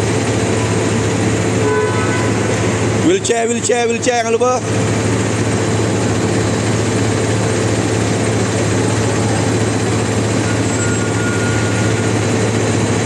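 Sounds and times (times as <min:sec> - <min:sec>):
coach engine idling: 0:00.0 - 0:13.0.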